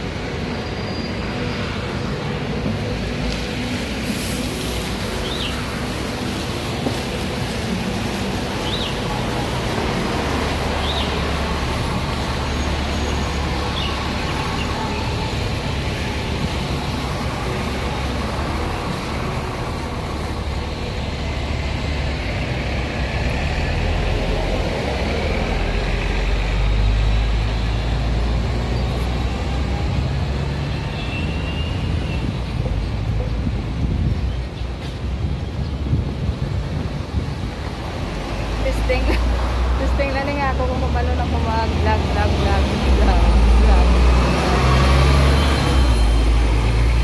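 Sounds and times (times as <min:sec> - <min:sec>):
buses and cars passing: 0:00.0 - 0:47.0
low traffic rumble: 0:00.0 - 0:47.0.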